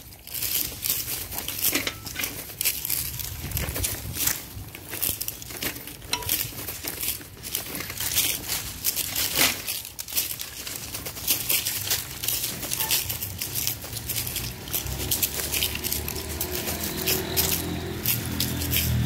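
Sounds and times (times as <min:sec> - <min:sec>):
footsteps crunching on leaves: 0:00.0 - 0:19.0.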